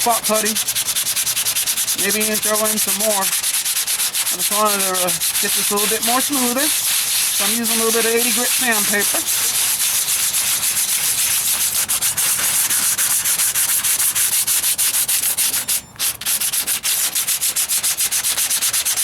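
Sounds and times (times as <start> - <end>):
sandpaper rubbing back and forth: 0.0 - 19.0.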